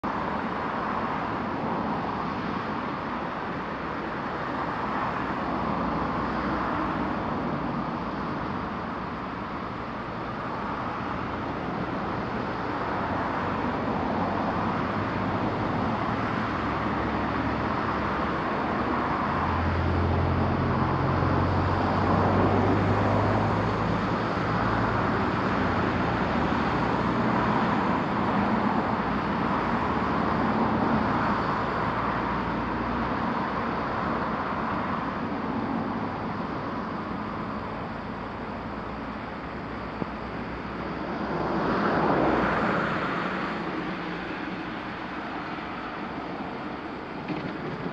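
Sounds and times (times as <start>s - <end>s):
road traffic noise: 0.0s - 47.9s
passing engine hum: 4.1s - 47.9s.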